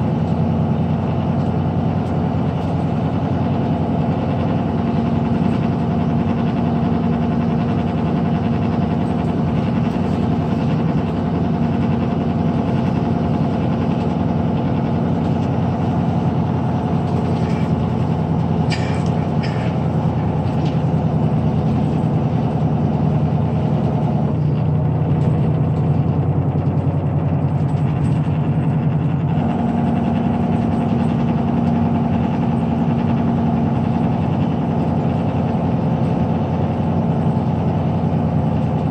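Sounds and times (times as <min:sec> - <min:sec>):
engine drone: 0:00.0 - 0:38.9
tyre and road noise: 0:00.0 - 0:38.9.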